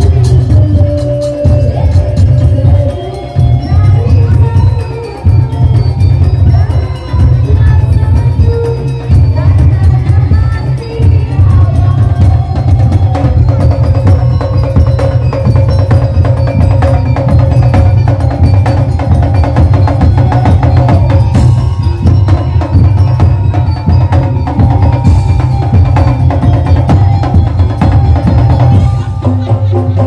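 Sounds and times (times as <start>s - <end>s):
percussion ensemble drumming: 0.0s - 30.0s.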